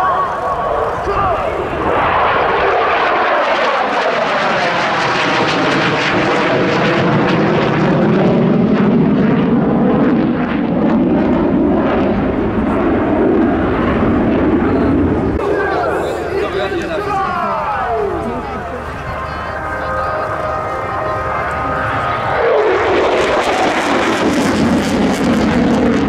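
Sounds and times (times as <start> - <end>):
fighter jet engine: 0.0 - 26.0.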